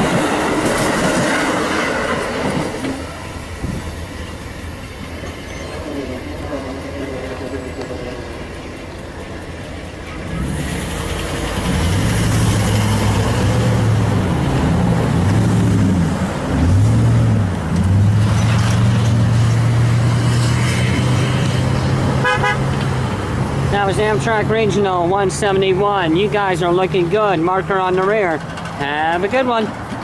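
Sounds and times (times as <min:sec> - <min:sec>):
passing train: 0:00.0 - 0:30.0.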